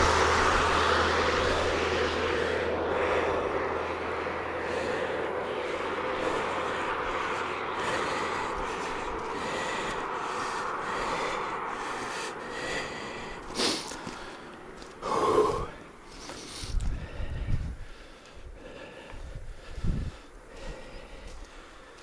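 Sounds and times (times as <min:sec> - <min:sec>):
vehicle passing on asphalt: 0:00.0 - 0:22.0.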